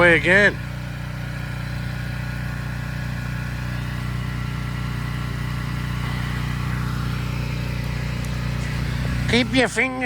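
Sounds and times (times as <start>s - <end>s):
small engine droning: 0.0s - 10.0s.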